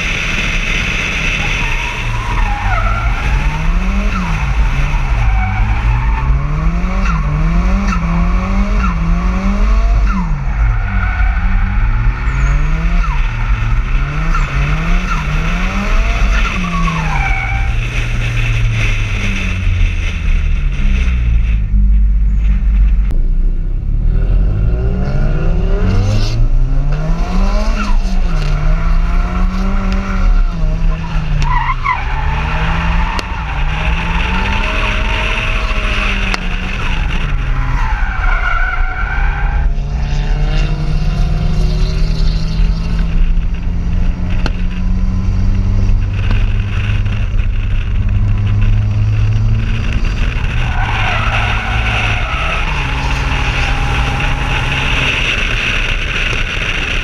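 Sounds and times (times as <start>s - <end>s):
car engine revving: 0.0s - 23.1s, 23.7s - 57.0s.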